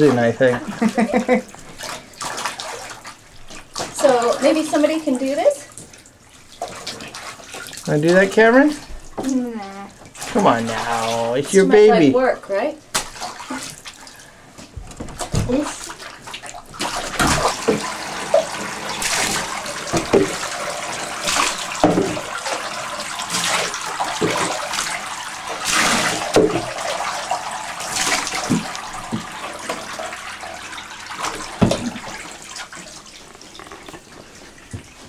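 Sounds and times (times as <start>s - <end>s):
water splashing in bathtub: 0.0s - 35.0s.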